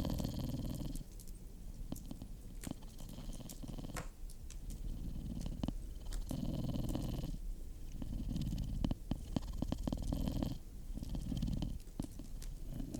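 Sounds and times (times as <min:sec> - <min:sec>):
cat purring: 0:00.0 - 0:01.1, 0:01.8 - 0:12.9.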